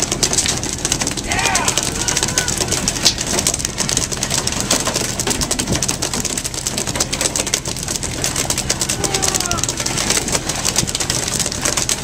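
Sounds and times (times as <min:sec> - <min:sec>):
boat engine humming: 0:00.0 - 0:12.0
rain-like crackle of spray: 0:00.0 - 0:12.0.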